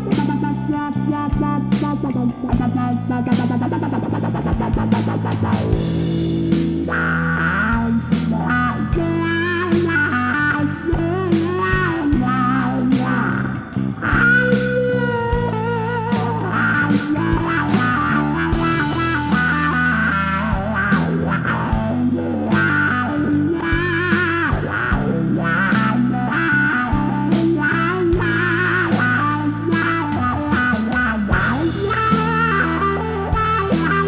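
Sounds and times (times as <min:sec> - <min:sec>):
electric guitar with wah: 0:00.0 - 0:34.0.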